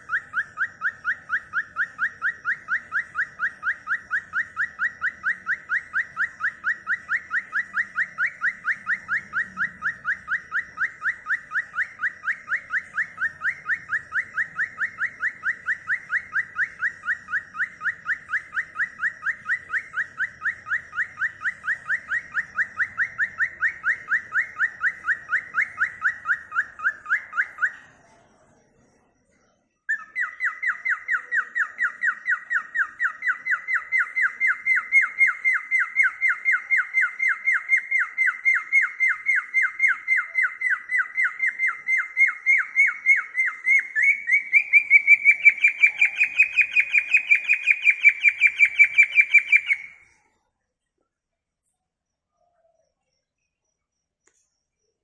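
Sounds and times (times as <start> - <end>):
cockatiel chirping: 0.0 - 27.9, 29.9 - 50.0.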